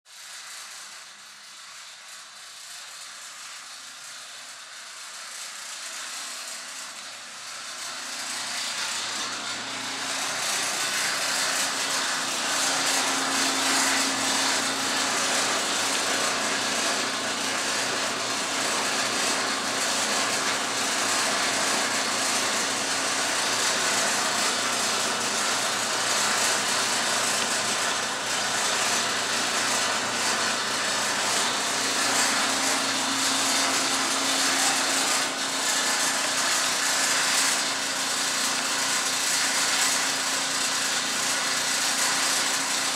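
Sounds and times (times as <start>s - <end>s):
clothes dryer droning: 6.2s - 42.9s.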